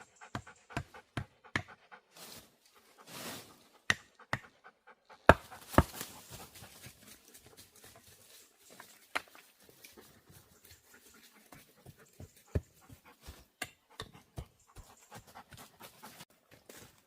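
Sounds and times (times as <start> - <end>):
dog panting: 0.0 - 2.2, 2.8 - 8.3, 9.8 - 16.3.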